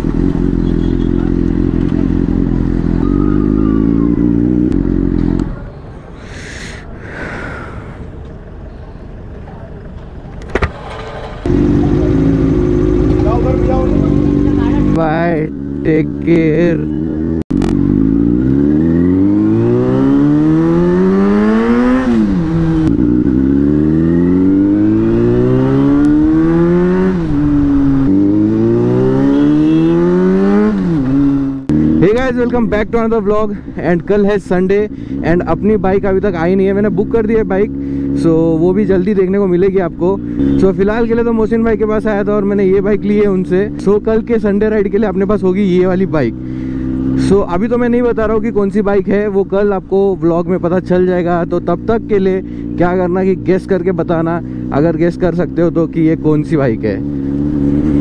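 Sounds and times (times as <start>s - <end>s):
motorcycle engine running: 0.0s - 5.6s, 8.5s - 58.0s.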